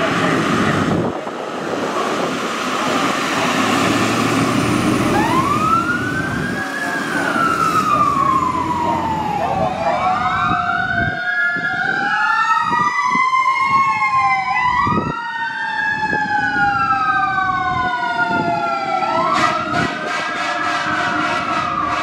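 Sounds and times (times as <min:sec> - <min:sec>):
fire engine siren wailing: 0:00.0 - 0:22.0.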